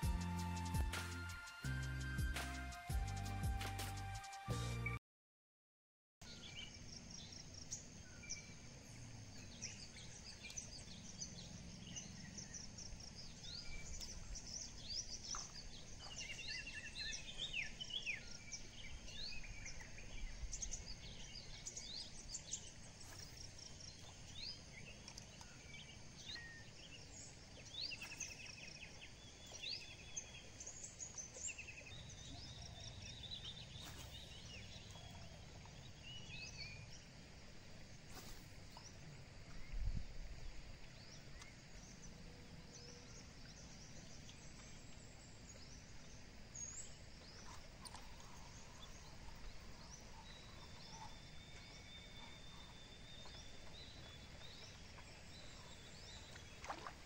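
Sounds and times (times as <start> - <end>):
low outdoor background noise: 6.2 - 57.0
wild birds chirping and singing: 6.2 - 57.0.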